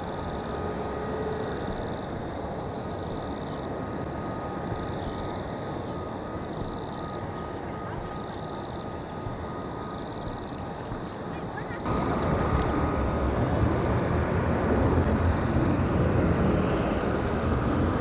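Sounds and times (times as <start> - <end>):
distant jet engines rumbling: 0.0 - 18.0.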